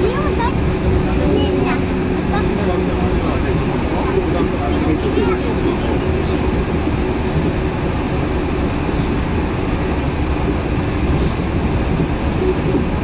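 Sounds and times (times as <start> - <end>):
constant hum: 0.0 - 13.0
train tyres rumbling: 0.0 - 13.0.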